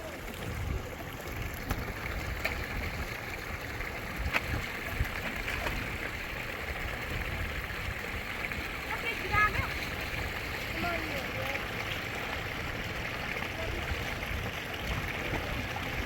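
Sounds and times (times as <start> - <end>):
flowing water: 0.0 - 16.0.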